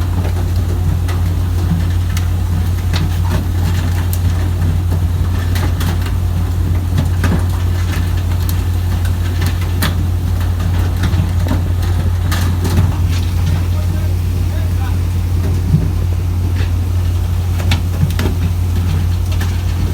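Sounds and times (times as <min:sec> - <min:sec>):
boat engine droning: 0:00.0 - 0:19.9.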